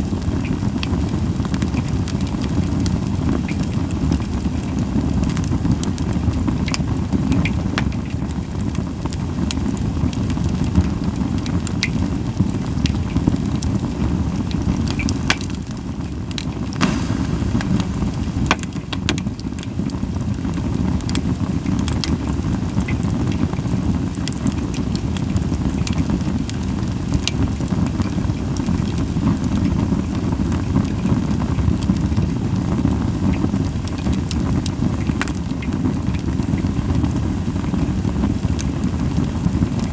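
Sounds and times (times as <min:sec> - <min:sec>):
campfire crackling and popping: 0:00.0 - 0:39.9
fire low rumble: 0:00.0 - 0:39.9.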